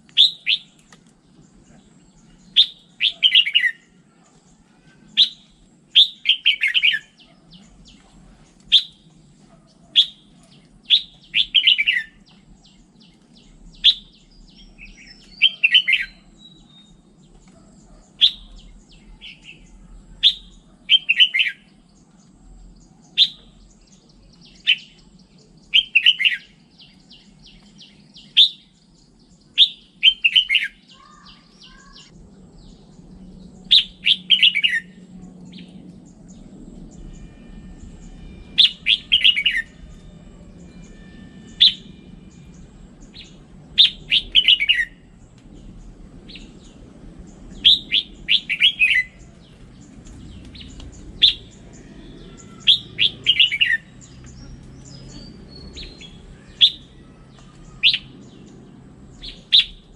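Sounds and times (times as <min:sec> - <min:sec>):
bulbul singing: 0:00.0 - 0:59.9.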